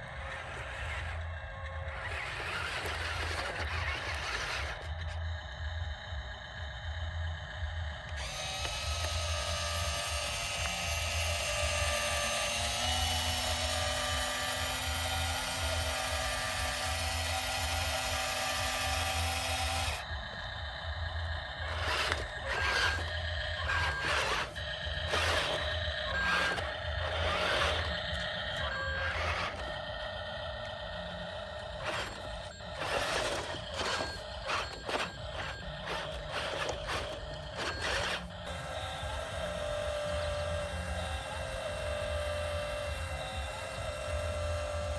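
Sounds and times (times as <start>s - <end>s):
small electric motors whining: 0.0s - 44.9s.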